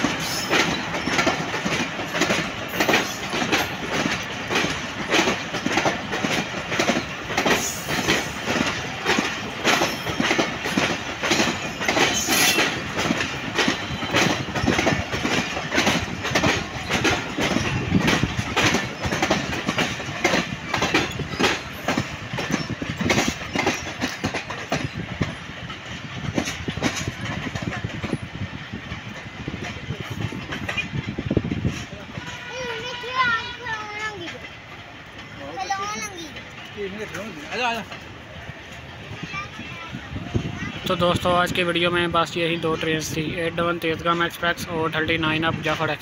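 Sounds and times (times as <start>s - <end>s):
train wheels clattering over rails: 0.0s - 46.0s.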